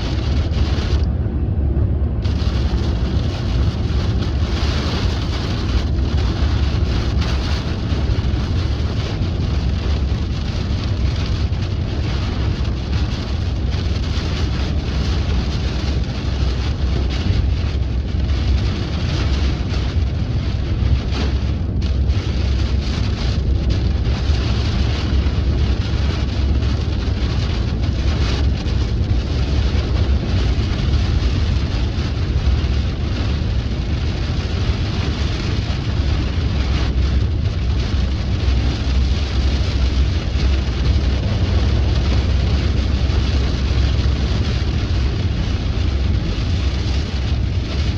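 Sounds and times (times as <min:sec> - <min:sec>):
rain on a car: 0:00.0 - 0:47.9
road and engine rumble: 0:00.0 - 0:47.9
raindrop hits: 0:02.2 - 0:47.9.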